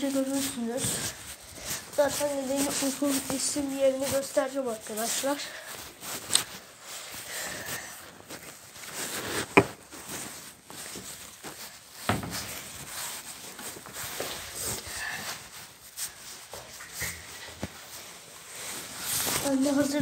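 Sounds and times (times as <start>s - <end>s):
footsteps: 0.0s - 20.0s.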